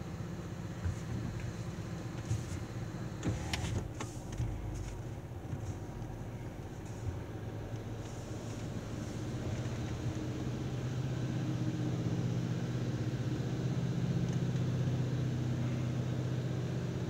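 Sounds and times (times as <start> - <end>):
car engine humming from inside: 0.0 - 17.0.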